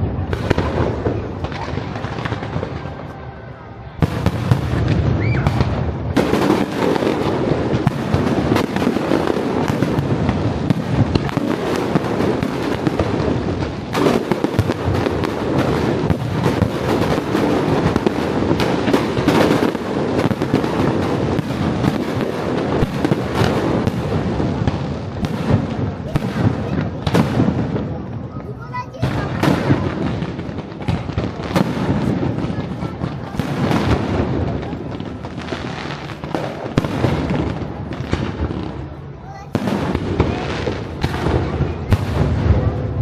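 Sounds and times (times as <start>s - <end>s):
loud firework cracks: 0.0s - 3.2s, 4.0s - 43.0s
fireworks bangs and crackling: 0.0s - 43.0s.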